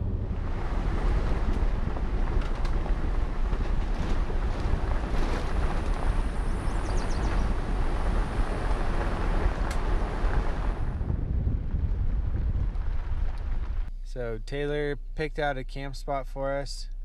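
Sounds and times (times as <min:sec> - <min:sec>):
tyres rumbling on gravel: 0:00.0 - 0:13.9
wind on microphone: 0:00.0 - 0:13.9.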